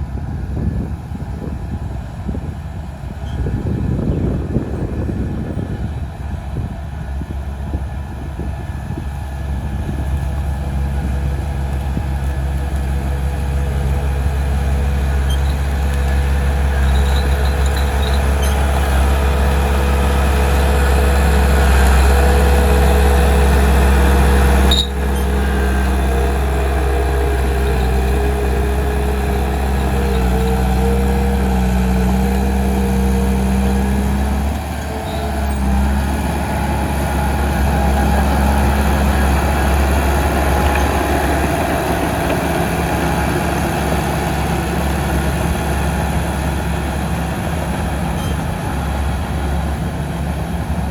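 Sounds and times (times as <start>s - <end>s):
heavy diesel engine under load: 0.0s - 50.9s.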